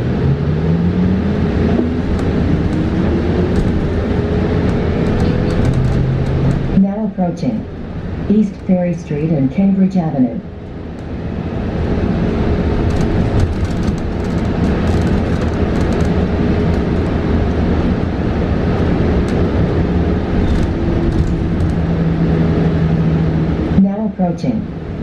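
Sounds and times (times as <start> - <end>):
road and tyre rumble: 0.0 - 9.7, 10.4 - 23.8, 24.7 - 25.0.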